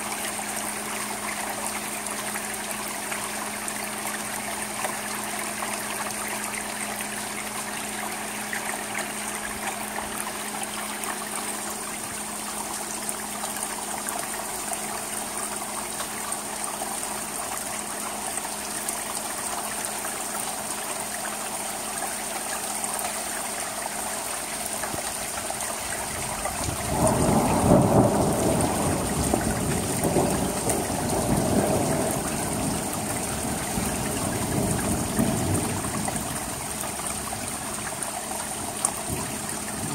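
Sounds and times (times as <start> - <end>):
rain on roof shingles: 0.0 - 39.9.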